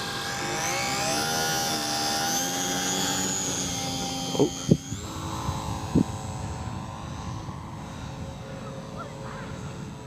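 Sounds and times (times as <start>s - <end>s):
electric propeller motor whine: 0.0s - 10.0s.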